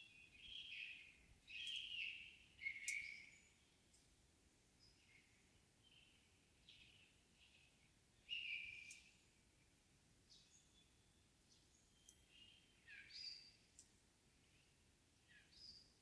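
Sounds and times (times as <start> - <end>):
songbirds singing faintly: 0.0 - 16.0.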